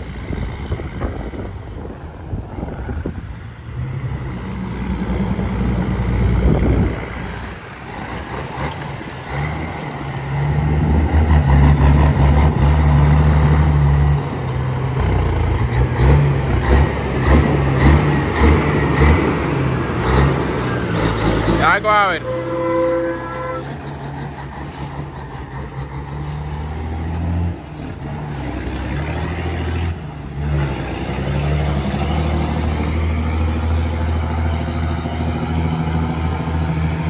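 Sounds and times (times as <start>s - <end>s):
diesel truck engine droning: 0.0s - 37.0s
small vehicle passing: 0.0s - 37.0s.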